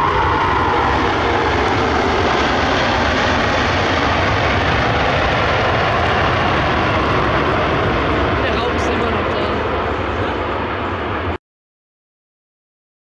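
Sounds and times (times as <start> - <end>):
jet engines rushing: 0.0 - 11.4.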